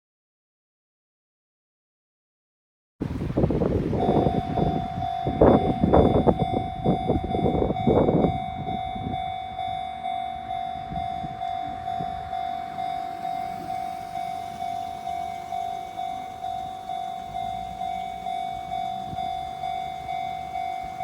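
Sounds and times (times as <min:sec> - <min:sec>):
level-crossing warning bell: 0:03.9 - 0:21.0.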